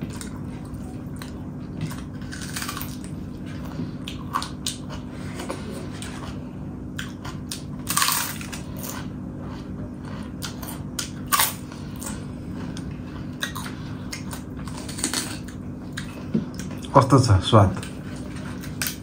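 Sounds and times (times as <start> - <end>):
crunchy food being chewed: 0.0 - 17.0, 17.7 - 19.0.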